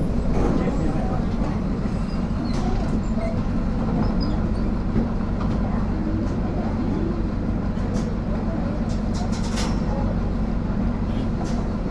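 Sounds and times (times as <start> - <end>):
bus engine rumble: 0.0 - 11.9.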